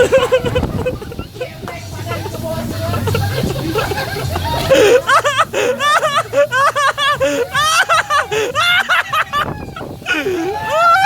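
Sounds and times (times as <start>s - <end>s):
high-pitched voices: 0.0s - 11.0s
people laughing: 0.0s - 11.0s.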